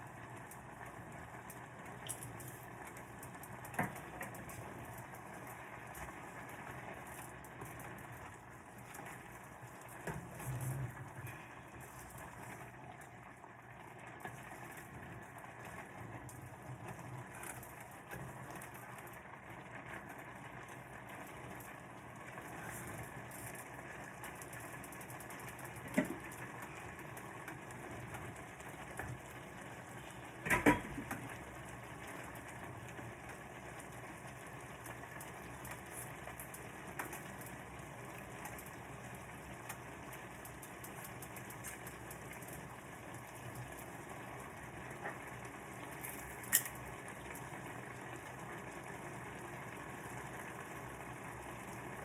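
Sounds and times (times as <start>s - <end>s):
food sizzling in a pan: 0.0s - 52.0s.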